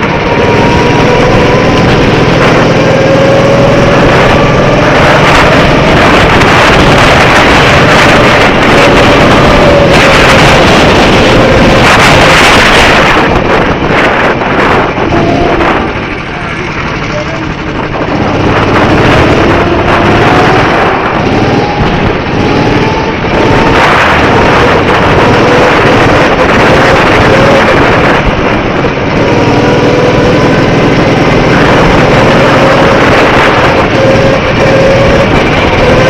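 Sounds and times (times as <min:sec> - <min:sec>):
go-kart engine accelerating: 0:00.0 - 0:36.0
loud rushing noise: 0:00.0 - 0:36.0.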